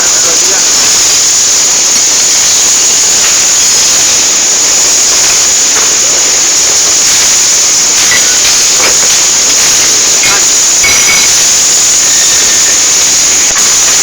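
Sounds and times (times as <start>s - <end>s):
loud steady hiss: 0.0s - 14.0s.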